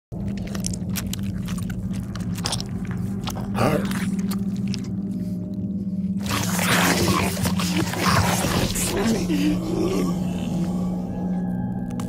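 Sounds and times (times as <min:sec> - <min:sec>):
wet crunching and snapping: 0:00.1 - 0:10.8, 0:11.4 - 0:12.0
steady low drone: 0:00.1 - 0:12.0.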